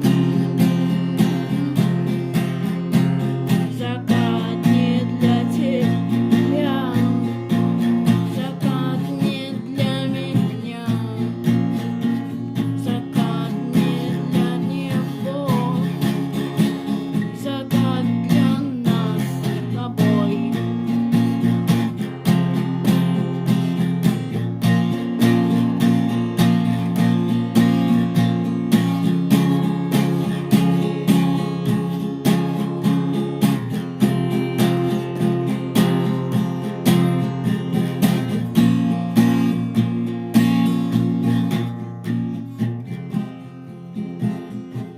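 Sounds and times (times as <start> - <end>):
strummed acoustic guitar: 0.0 - 44.9.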